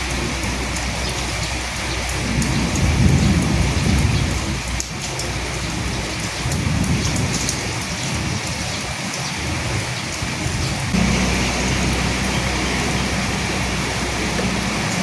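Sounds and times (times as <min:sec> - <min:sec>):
low rumbles: 0:00.0 - 0:08.4, 0:10.4 - 0:15.0
raindrops ticking: 0:00.0 - 0:15.0
steady rain falling: 0:00.0 - 0:15.0.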